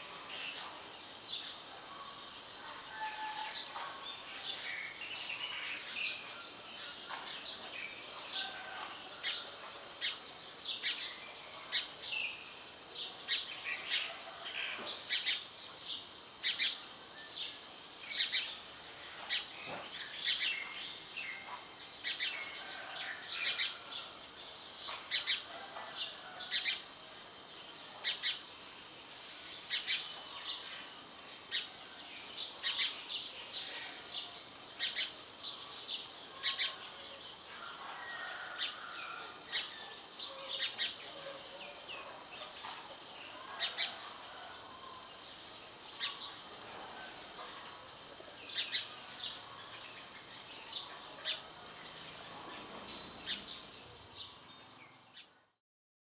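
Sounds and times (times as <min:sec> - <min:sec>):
birds chirping: 0:00.0 - 0:55.5
outdoor background hiss: 0:00.0 - 0:55.6.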